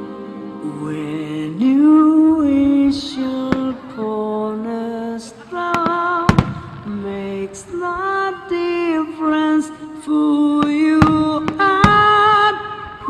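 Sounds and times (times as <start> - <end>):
slow music with singing: 0.0 - 13.0
fireworks bursting: 1.6 - 13.0.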